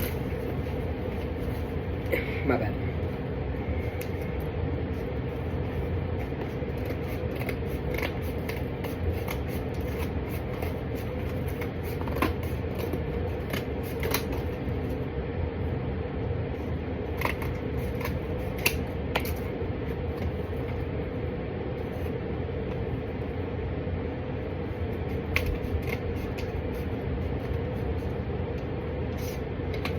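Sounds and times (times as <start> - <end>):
steady background hum: 0.0 - 29.9.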